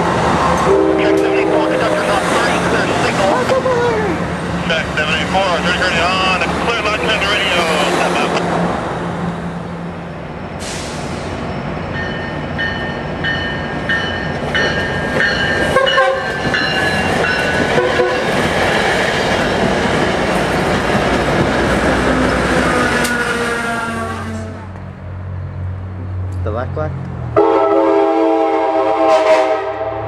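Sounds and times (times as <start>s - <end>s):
train wheels rumbling on rails: 0.0s - 27.2s.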